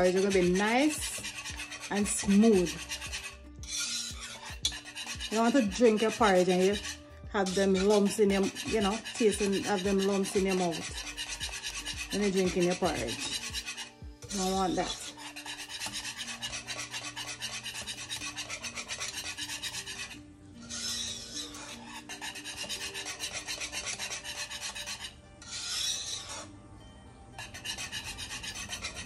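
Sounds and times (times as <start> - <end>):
whisk scraping a metal pot: 0.0 - 26.6, 27.3 - 29.0.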